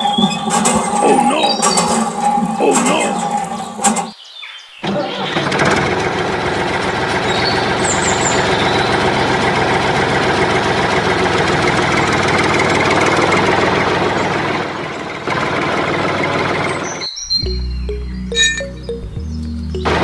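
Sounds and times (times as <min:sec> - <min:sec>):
tractor engine running: 0:00.0 - 0:04.1, 0:05.2 - 0:20.0.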